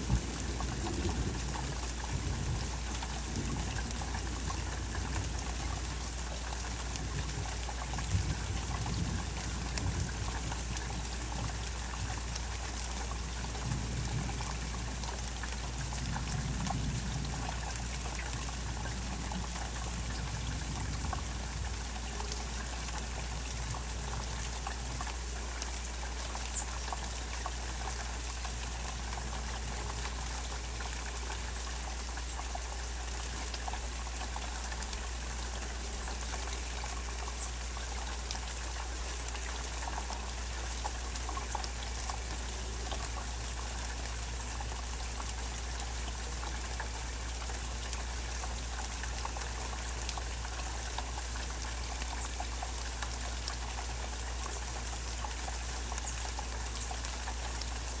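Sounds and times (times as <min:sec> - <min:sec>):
steady rain falling: 0:00.0 - 0:58.0
water dripping and trickling: 0:00.0 - 0:58.0.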